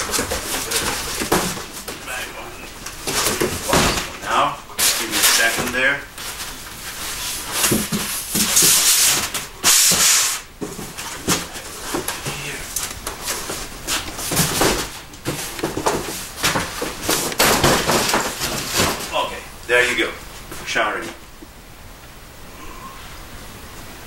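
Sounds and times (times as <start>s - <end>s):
cardboard rustling and scraping: 0.0s - 20.6s.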